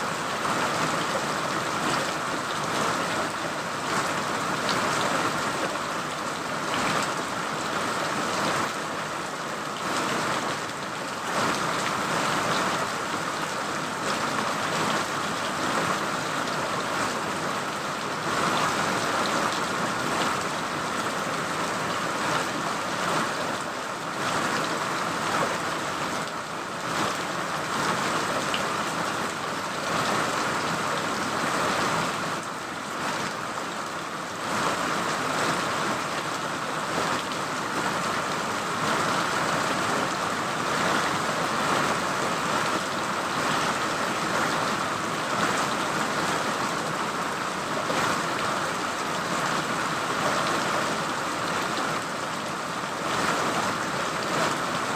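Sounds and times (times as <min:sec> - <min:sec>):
raindrops pattering on a surface: 0:00.0 - 0:54.9
steady rain hiss: 0:00.0 - 0:54.9.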